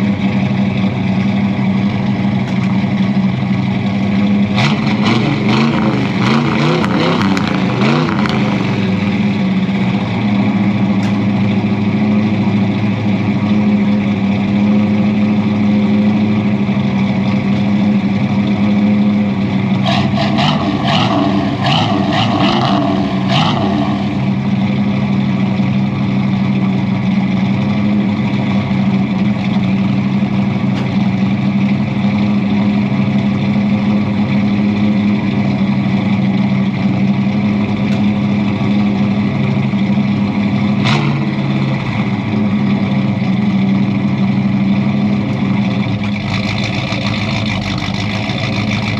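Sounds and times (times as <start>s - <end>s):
truck engine idling: 0.0s - 48.9s.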